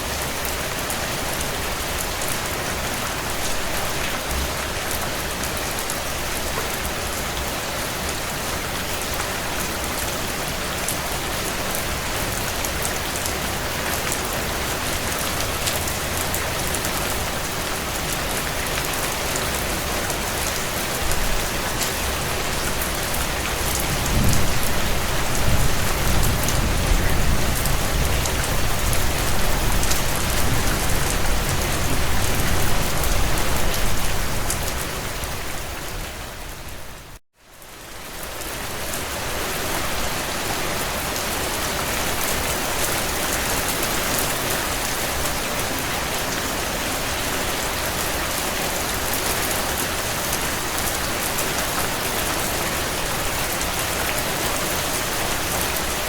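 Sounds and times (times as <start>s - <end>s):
heavy rain on windows: 0.0s - 56.0s.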